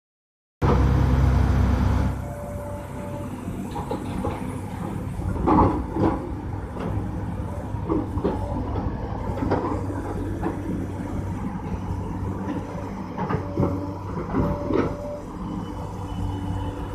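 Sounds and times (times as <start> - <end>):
excavator diesel engine running: 0.6 - 16.9.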